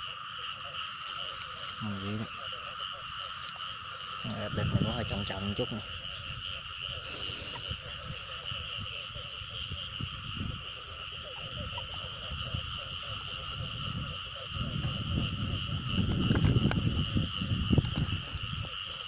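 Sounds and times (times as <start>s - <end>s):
frogs calling at night: 0.0s - 19.0s.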